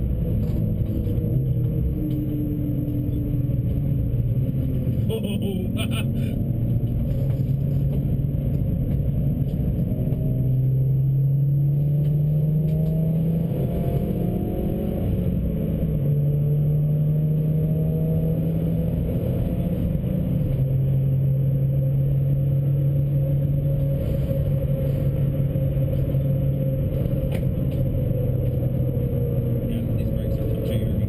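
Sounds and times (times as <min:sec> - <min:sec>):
car engine pulling hard: 0:00.0 - 0:31.0
road and wind noise: 0:00.0 - 0:31.0.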